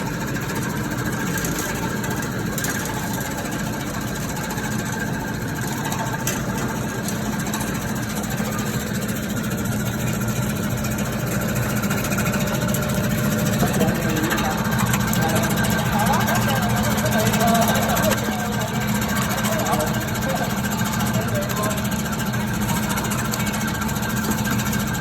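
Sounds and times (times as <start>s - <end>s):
slicing machine motor hum: 0.0s - 25.0s.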